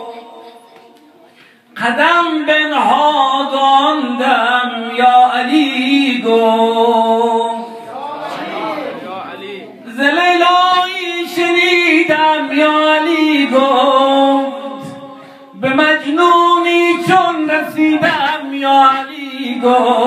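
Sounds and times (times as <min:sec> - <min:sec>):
man chanting unaccompanied: 0:01.8 - 0:07.9, 0:09.1 - 0:20.0.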